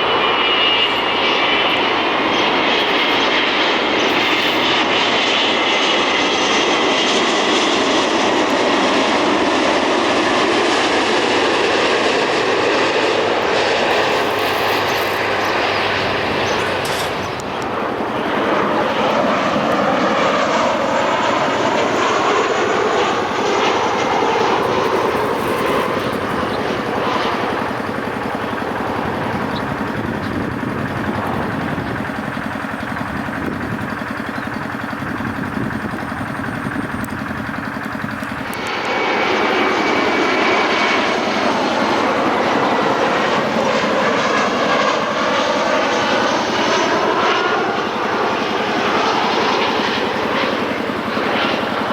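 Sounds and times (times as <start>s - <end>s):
jet airliner passing overhead: 0.0s - 51.9s.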